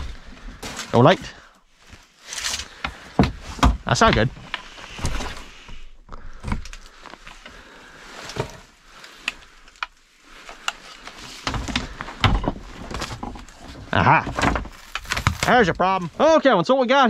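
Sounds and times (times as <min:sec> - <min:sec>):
rustling: 0:00.0 - 0:16.5.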